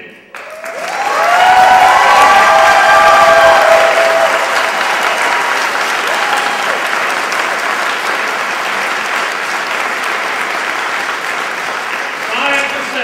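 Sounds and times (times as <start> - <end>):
crowd applauding: 0.3 - 13.0.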